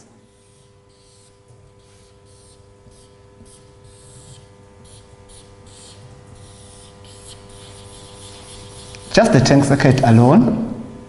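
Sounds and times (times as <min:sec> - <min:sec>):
steady low hum: 0:00.0 - 0:11.0
marker pen on whiteboard: 0:00.3 - 0:09.7.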